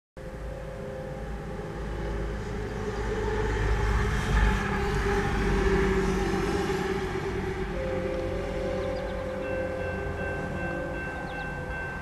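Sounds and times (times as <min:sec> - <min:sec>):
diesel locomotive rumble: 0:00.2 - 0:12.0
truck passing: 0:00.2 - 0:12.0.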